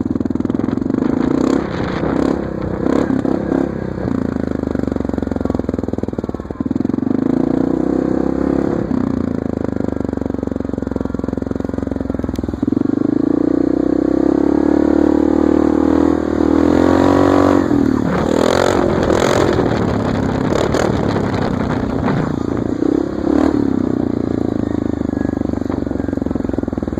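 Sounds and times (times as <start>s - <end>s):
atv engine revving: 0.0s - 26.9s.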